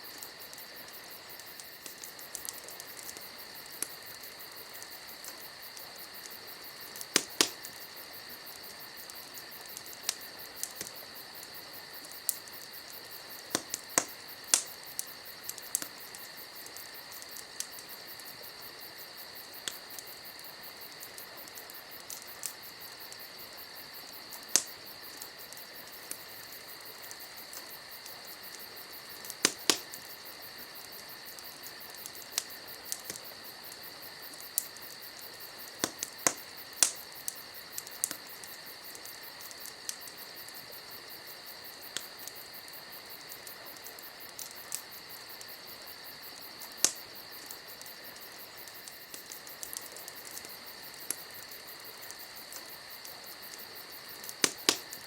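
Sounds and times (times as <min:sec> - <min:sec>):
campfire wood crackling: 0:00.0 - 0:55.0
crickets chirping: 0:00.0 - 0:55.0.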